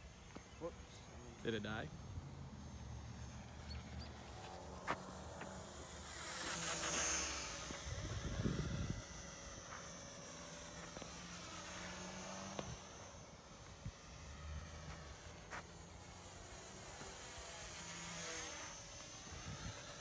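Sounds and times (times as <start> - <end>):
model plane motor buzzing: 0.0 - 20.0.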